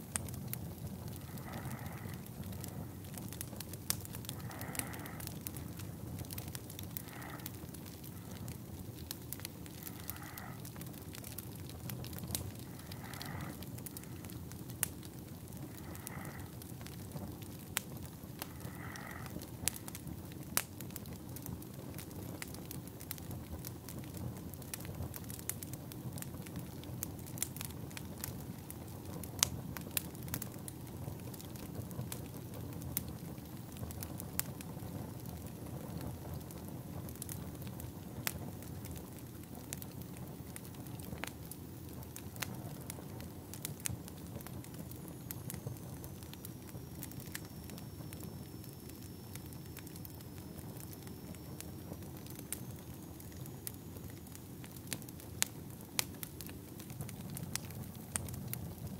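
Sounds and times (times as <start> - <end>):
fire popping and snapping: 0.0 - 58.9
low rumble of flames: 0.0 - 58.9.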